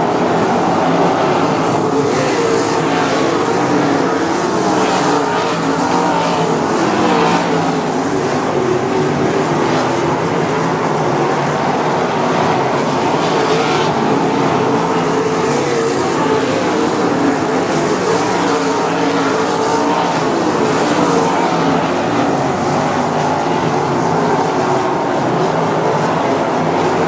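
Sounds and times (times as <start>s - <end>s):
race car engines at high revs: 0.0s - 27.0s.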